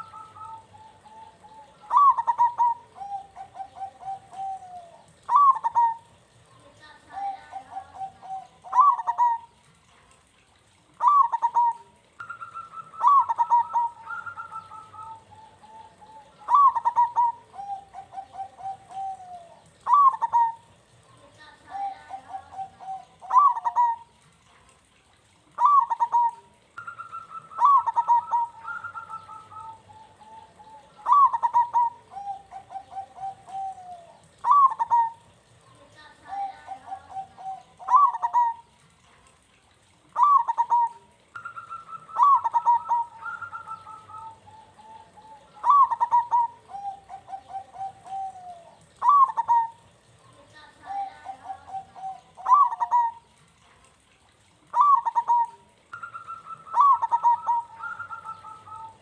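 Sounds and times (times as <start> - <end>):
doves cooing: 0.0 - 53.6, 54.2 - 59.0.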